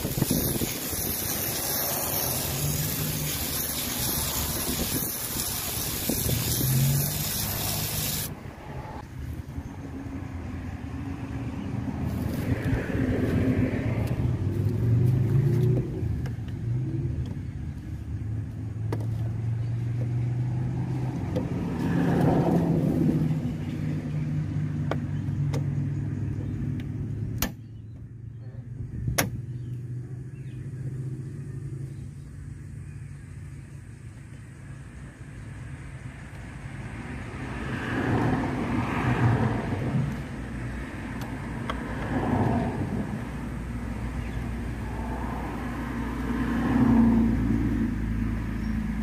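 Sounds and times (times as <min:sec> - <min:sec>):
vehicle engine rumbling: 0:00.0 - 0:49.0.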